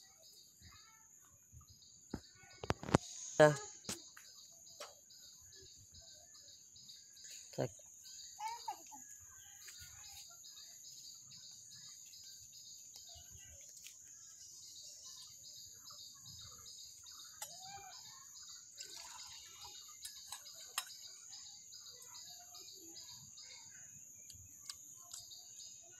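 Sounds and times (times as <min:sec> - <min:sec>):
cricket chirping: 0:00.0 - 0:25.9
high insect drone: 0:01.7 - 0:25.9.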